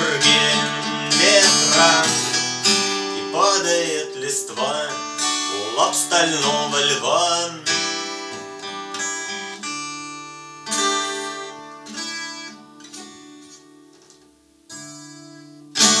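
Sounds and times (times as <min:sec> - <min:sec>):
twelve-string acoustic guitar strummed: 0:00.0 - 0:16.0.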